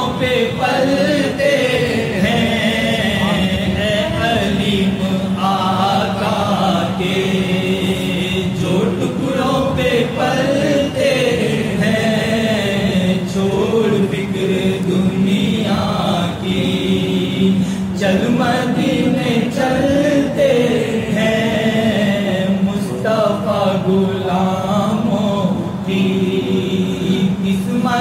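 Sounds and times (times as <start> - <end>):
man singing unaccompanied: 0.0 - 28.0
steady low hum: 0.0 - 28.0.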